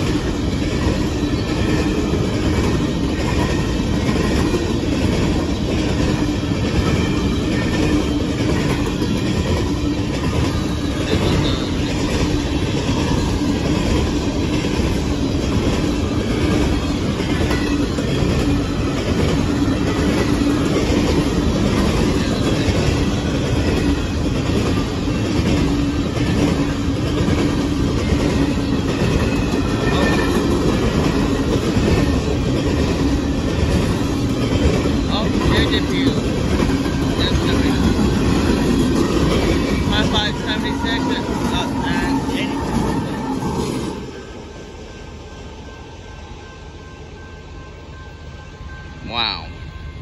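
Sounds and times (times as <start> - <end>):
freight train cars rolling on rails: 0.0 - 50.0.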